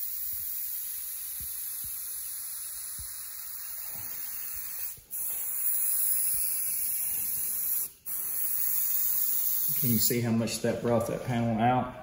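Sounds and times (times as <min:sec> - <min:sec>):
airbrush hissing: 0:00.0 - 0:10.4.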